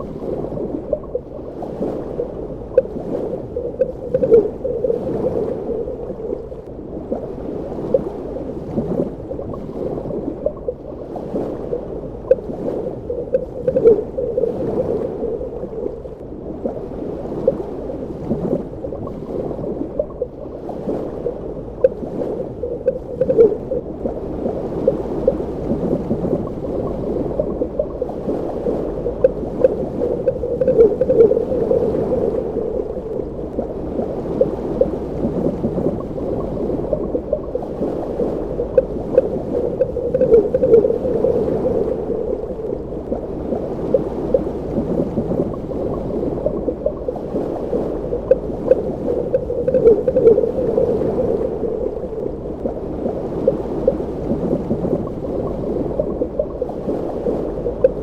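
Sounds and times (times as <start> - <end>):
underwater rumble with gurgling: 0.0 - 58.0.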